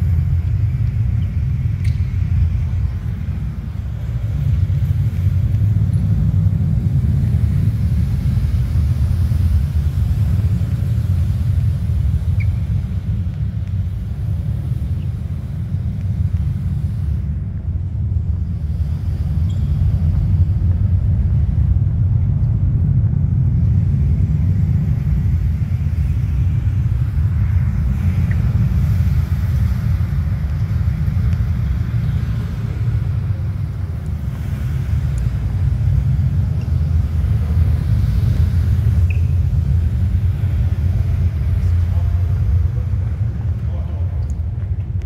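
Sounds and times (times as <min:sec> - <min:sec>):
faint hiss: 0:00.0 - 0:22.5, 0:23.2 - 0:44.6
deep steady rumble: 0:00.0 - 0:45.0.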